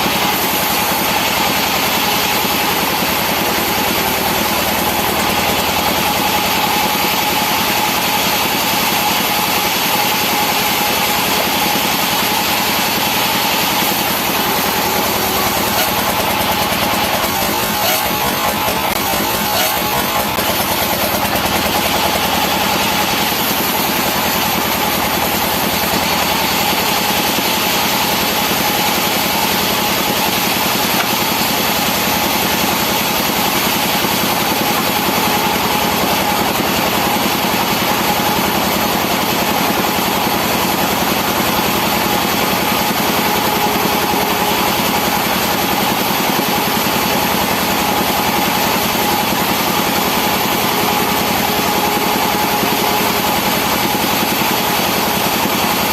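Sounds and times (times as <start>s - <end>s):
sawmill machinery droning: 0.0s - 55.9s.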